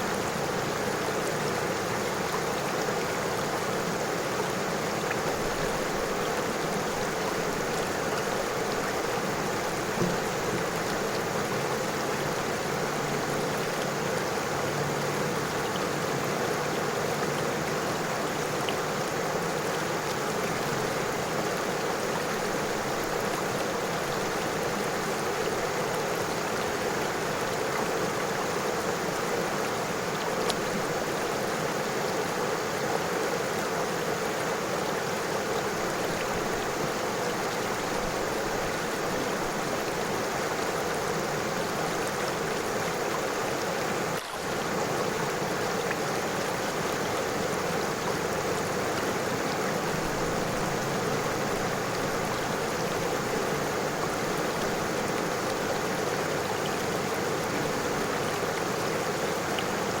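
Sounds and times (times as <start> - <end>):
river water flowing over stones: 0.0 - 60.0.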